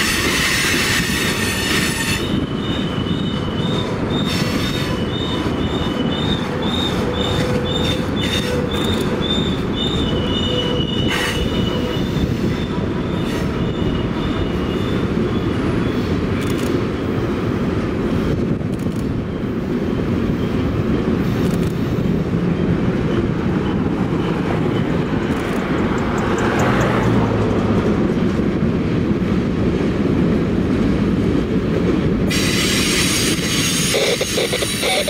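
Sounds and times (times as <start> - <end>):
wheels squealing on rails: 0.0 - 16.8, 18.4 - 28.3, 32.0 - 35.0
freight train wheels rumbling: 0.0 - 35.0.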